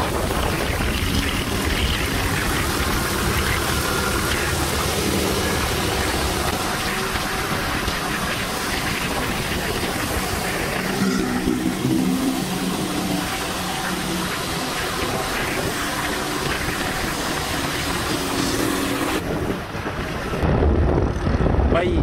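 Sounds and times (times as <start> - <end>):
tyre noise on wet road: 0.0 - 21.4
motorcycle engine hum: 0.0 - 21.8
wind rushing: 0.0 - 22.0.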